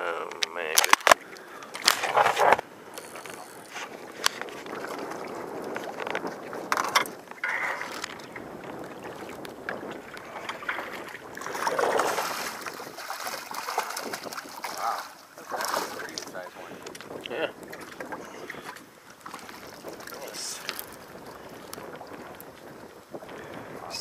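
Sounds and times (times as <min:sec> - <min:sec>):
waves lapping against boat hull: 0:00.0 - 0:24.0
wind on microphone: 0:00.3 - 0:24.0.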